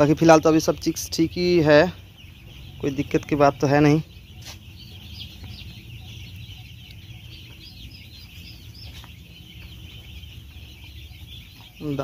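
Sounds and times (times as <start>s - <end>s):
chicks peeping: 0.0s - 12.0s
steady low rumble: 0.1s - 12.0s.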